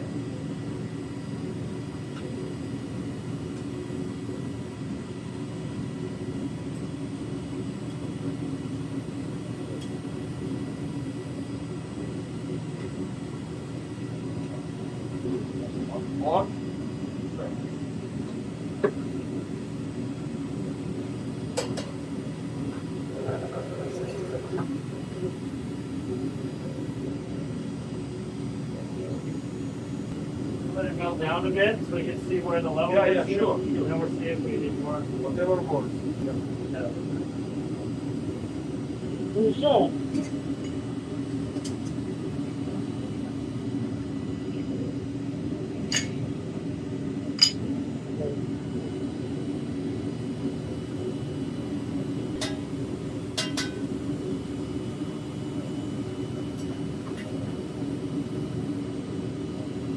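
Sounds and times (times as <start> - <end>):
furnace burner roaring: 0.0 - 59.9.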